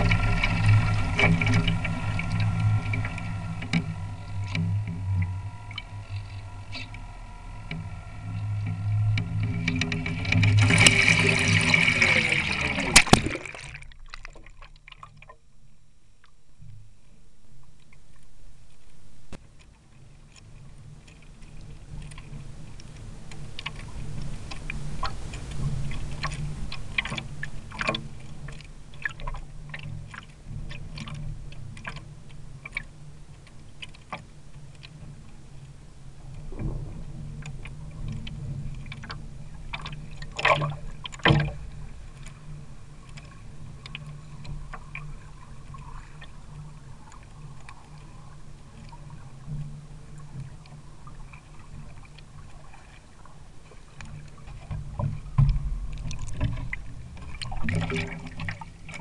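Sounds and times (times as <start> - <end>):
water slapping against hull: 0.0 - 15.4, 18.8 - 59.0.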